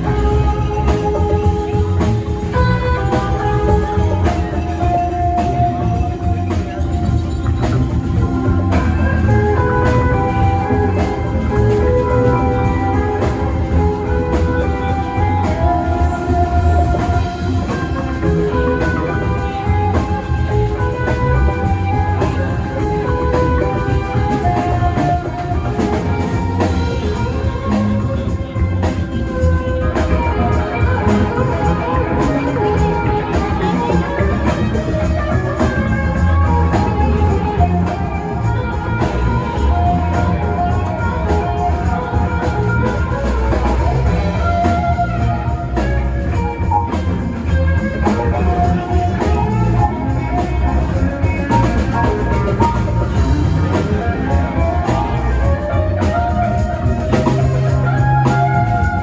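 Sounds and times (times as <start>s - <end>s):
bass guitar: 0.0s - 59.0s
drum kit: 0.0s - 59.0s
electric guitar lines: 0.0s - 59.0s.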